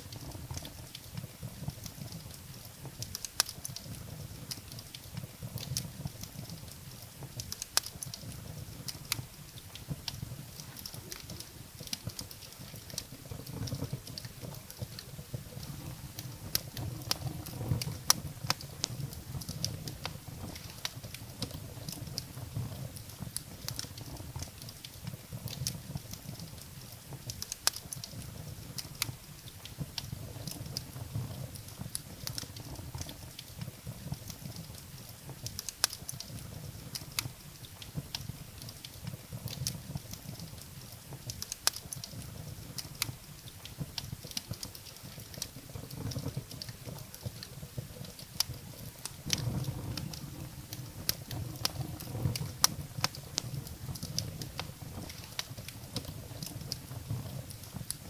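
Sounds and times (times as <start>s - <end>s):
firewood crackling and popping: 0.0s - 58.0s.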